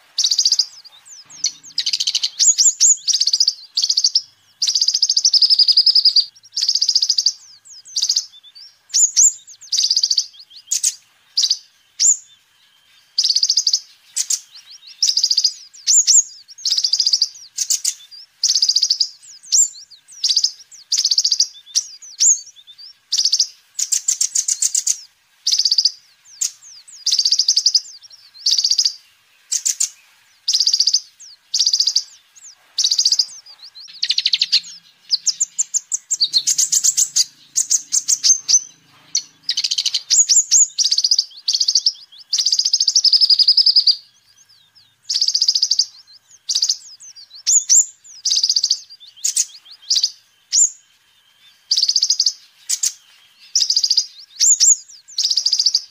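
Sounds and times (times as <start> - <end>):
bird singing high-pitched trills: 0.0 - 55.9.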